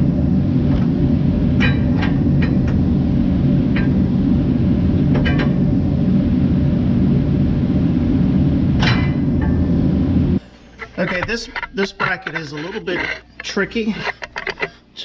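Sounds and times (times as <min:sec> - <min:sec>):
machine rumbling: 0:00.0 - 0:15.0.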